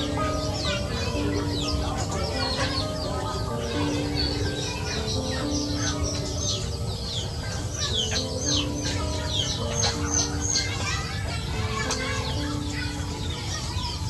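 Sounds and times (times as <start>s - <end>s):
young chickens peeping: 0.0s - 14.0s.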